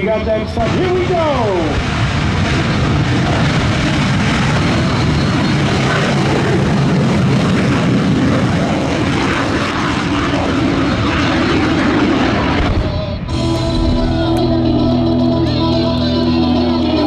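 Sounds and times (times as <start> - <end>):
aircraft engine noise: 0.0 - 17.0.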